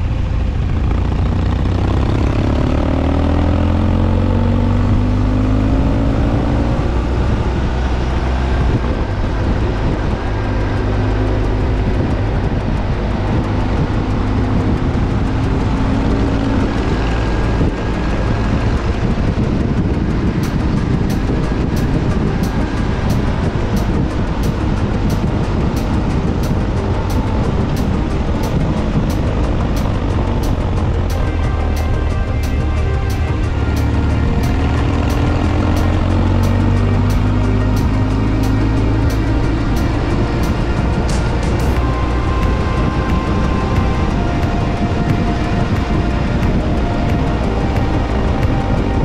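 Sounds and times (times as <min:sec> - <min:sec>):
motorcycle engine running: 0:00.0 - 0:49.0
wind rush: 0:00.0 - 0:49.0.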